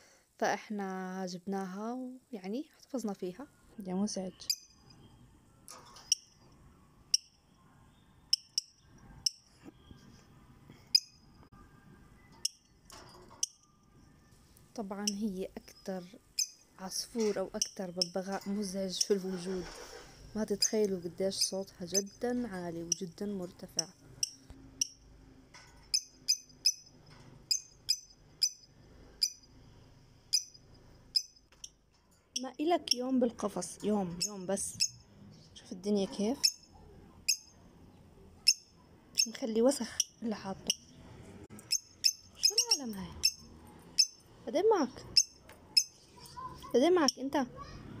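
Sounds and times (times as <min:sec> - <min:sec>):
lovebird chirping: 0:02.3 - 0:47.5.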